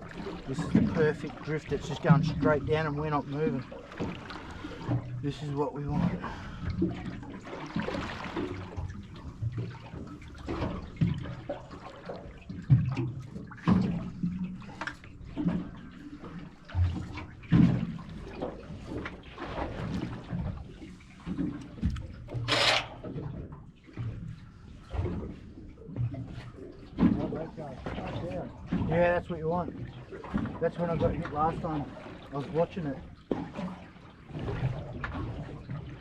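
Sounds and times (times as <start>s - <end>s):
water lapping against boat hull: 0.0s - 36.0s.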